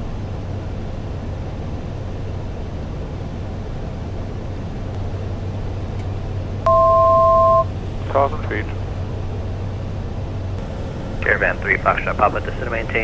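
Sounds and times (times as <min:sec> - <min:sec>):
turboprop cabin drone: 0:00.0 - 0:13.0.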